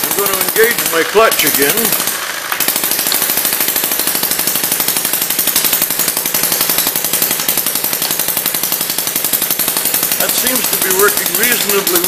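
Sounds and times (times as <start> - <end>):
rapid mechanical clatter: 0.0 - 12.0.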